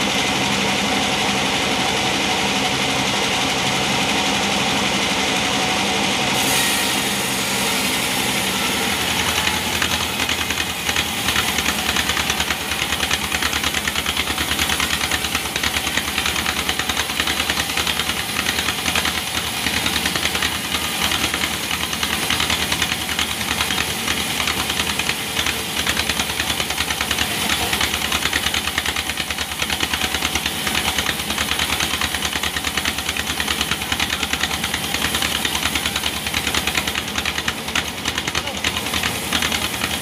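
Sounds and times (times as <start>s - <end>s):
band saw blade cutting log: 2.0s - 40.0s
sawmill drive pulsing: 2.8s - 40.0s.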